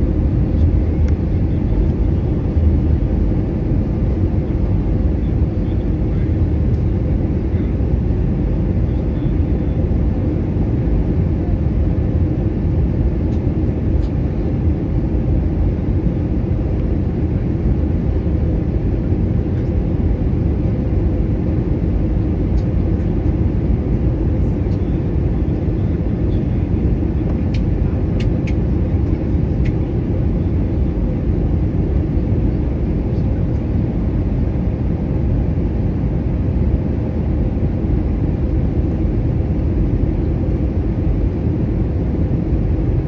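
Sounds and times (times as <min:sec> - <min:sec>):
airplane engine roar: 0:00.0 - 0:43.0.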